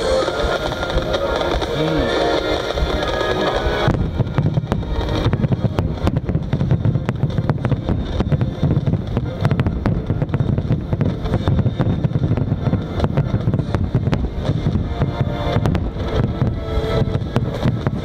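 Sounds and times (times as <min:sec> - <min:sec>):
firework shells bursting: 0:00.0 - 0:18.0
low rumble: 0:00.0 - 0:18.0.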